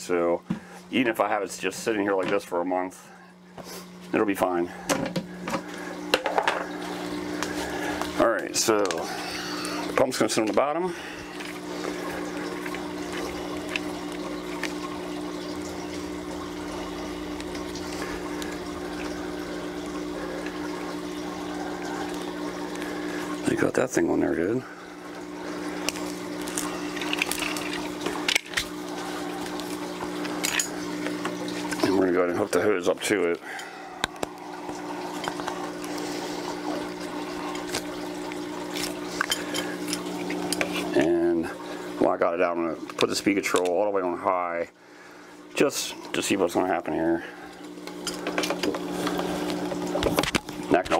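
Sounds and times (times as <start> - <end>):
pump humming: 0.0 - 50.9
water trickling and bubbling: 4.7 - 50.9.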